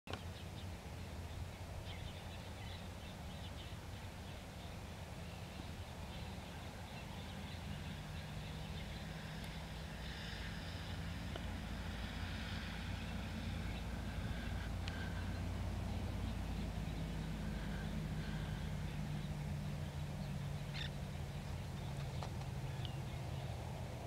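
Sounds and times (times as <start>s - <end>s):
low engine-like rumble: 0.1s - 24.0s
low hum: 0.1s - 24.0s.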